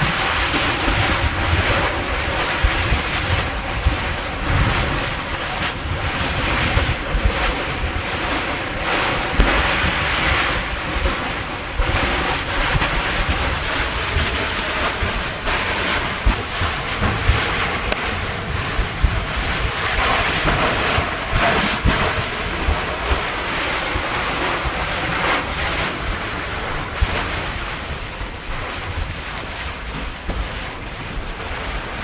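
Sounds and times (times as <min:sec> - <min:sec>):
ocean surf rushing: 0:00.0 - 0:32.0
wind buffeting microphone: 0:00.0 - 0:32.0.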